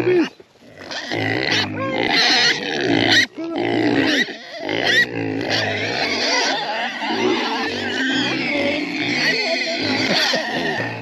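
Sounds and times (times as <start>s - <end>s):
pigs grunting and squealing: 0.0s - 11.0s.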